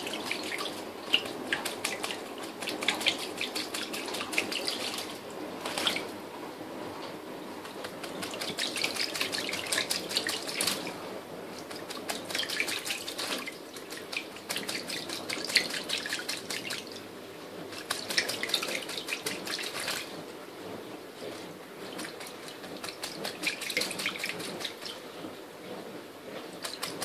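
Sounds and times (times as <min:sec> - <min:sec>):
bird wings splashing water: 0:00.0 - 0:06.2, 0:07.6 - 0:17.0, 0:17.6 - 0:20.1, 0:21.9 - 0:25.1, 0:26.5 - 0:27.0
tap running: 0:00.0 - 0:06.2, 0:06.9 - 0:27.0.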